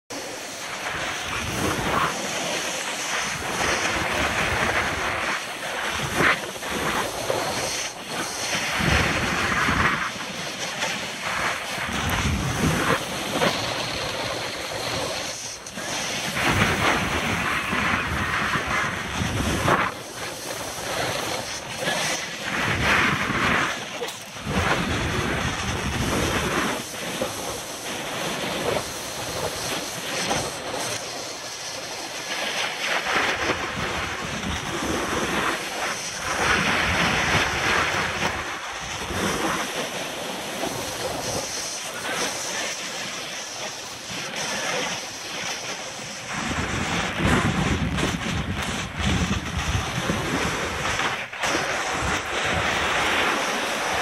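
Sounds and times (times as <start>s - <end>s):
skis hissing on snow: 0.1s - 48.4s, 49.0s - 54.0s
wind on microphone: 0.1s - 54.0s.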